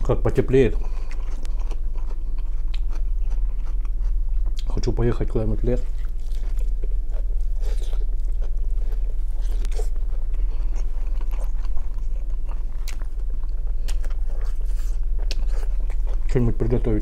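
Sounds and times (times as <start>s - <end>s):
low hum: 0.0s - 17.0s
wet chewing and smacks: 0.8s - 4.8s, 5.8s - 16.4s.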